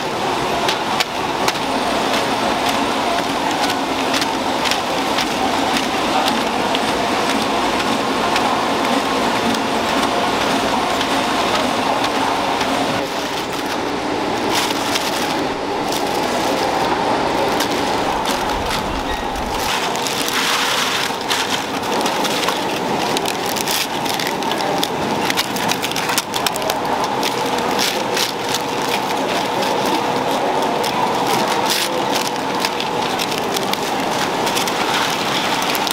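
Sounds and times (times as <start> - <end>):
packaging machinery running: 0.0 - 35.9
plastic packs clicking and crackling: 0.1 - 35.9.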